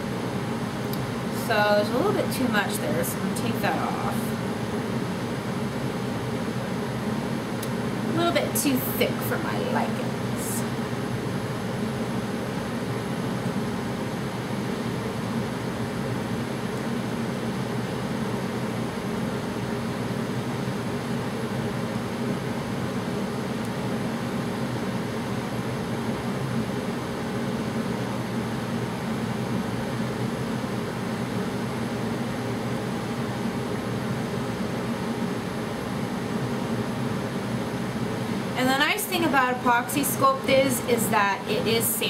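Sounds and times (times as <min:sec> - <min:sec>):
room heater running: 0:00.0 - 0:42.0.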